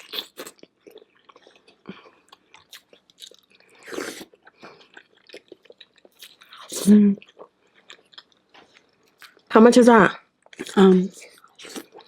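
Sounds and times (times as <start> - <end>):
chewing with wet smacks: 0.0 - 9.5, 10.4 - 12.0.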